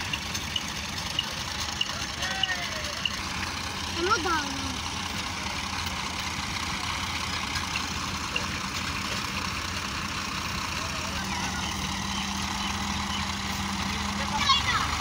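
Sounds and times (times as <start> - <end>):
diesel engines running under load: 0.0 - 15.0.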